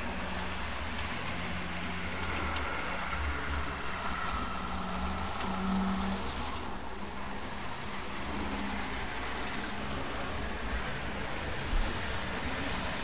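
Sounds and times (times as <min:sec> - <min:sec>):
model train motor hum: 0:00.0 - 0:13.0
wheels rumbling on track: 0:00.0 - 0:13.0.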